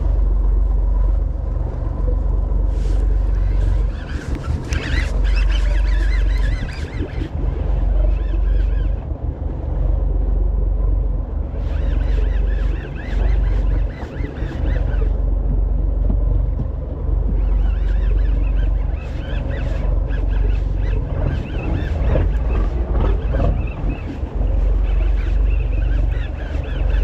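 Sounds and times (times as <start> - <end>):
boat engine rumble: 0.0 - 27.0
wind buffeting microphone: 0.0 - 27.0.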